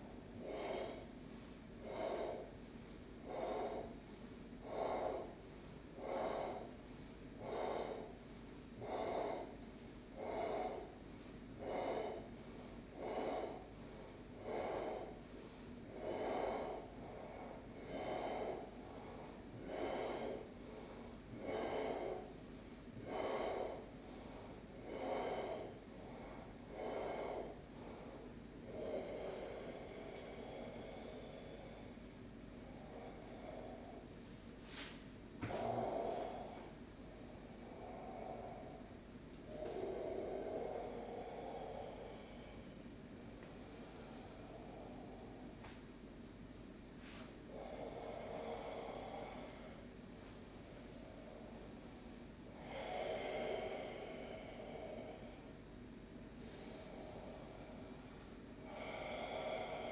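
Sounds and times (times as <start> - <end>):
deep yoga breathing: 0.0 - 59.9.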